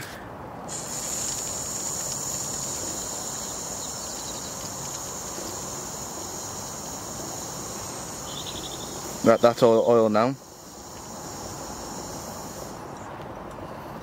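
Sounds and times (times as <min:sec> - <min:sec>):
steam hissing: 0:00.7 - 0:13.1.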